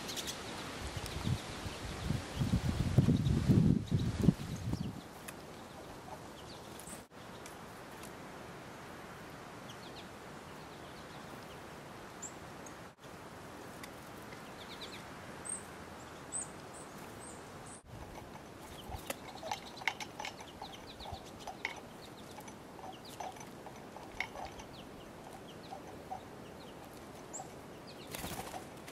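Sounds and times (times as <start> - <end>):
small birds chirping: 0.0 - 7.6, 9.6 - 12.9, 13.7 - 28.9
steady outdoor hiss: 0.0 - 28.9.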